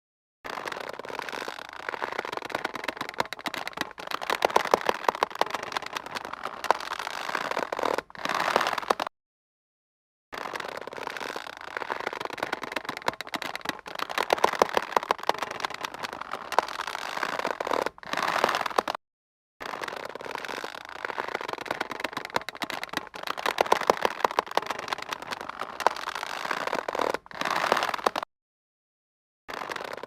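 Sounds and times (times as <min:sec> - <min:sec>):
taut rope creaking: 0:00.5 - 0:09.1, 0:10.4 - 0:19.0, 0:19.6 - 0:28.3, 0:29.5 - 0:30.0.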